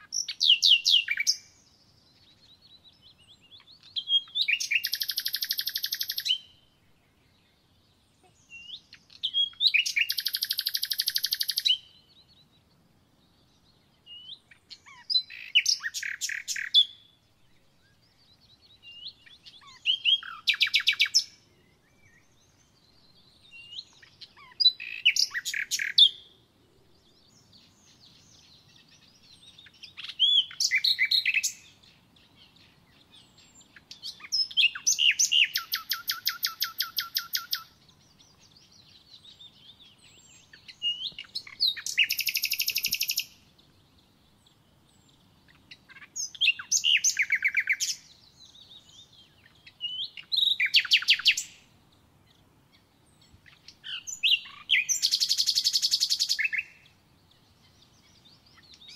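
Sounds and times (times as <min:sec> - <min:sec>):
songbird singing with trill: 0:00.0 - 0:58.9.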